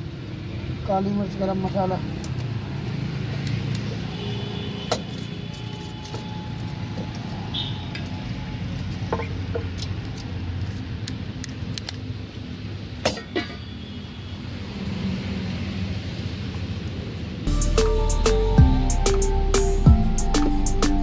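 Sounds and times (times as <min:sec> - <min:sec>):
low rumble of road traffic: 0:00.0 - 0:20.8.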